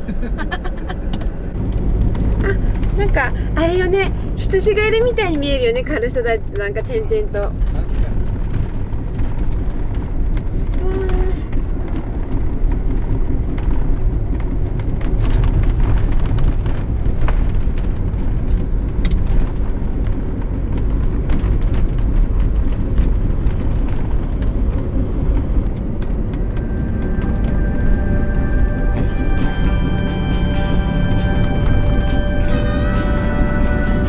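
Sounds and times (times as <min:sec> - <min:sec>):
road and wind rumble: 0:00.0 - 0:34.0.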